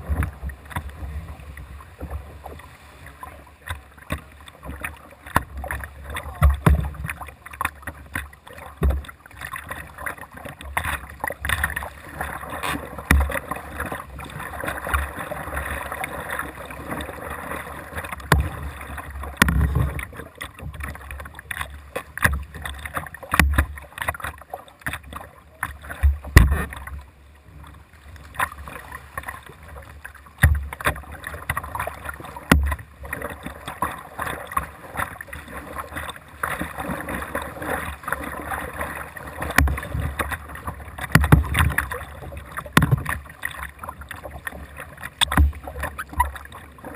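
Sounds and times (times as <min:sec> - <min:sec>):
kayak paddle strokes splashing: 0:00.0 - 0:46.9
water washing along plastic hull: 0:00.0 - 0:46.9.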